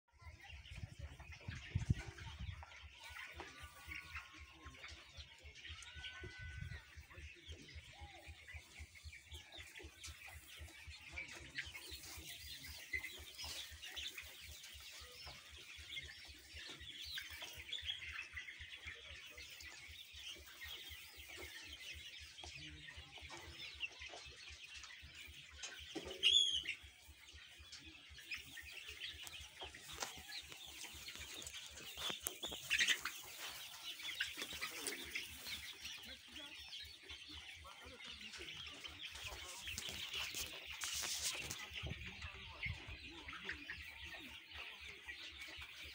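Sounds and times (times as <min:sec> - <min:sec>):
chicks cheeping and clucking: 0:00.1 - 0:45.9.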